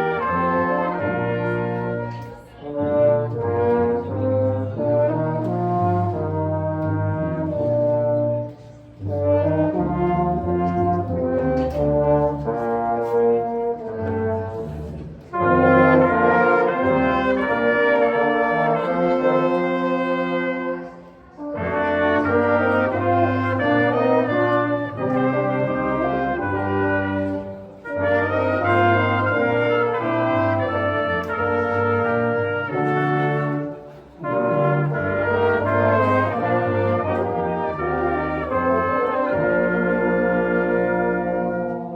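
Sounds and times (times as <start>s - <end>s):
brass ensemble playing chords: 0.0s - 41.9s.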